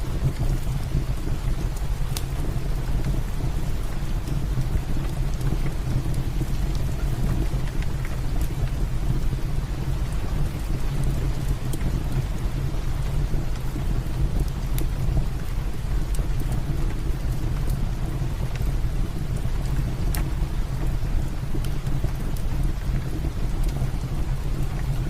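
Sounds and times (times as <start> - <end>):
heavy rain: 0.0 - 25.0
wood fire crackling and popping: 0.0 - 25.0.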